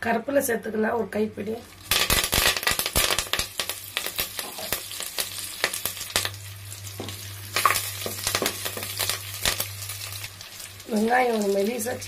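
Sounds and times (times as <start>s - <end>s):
leaves sizzling in hot oil: 1.5s - 12.0s.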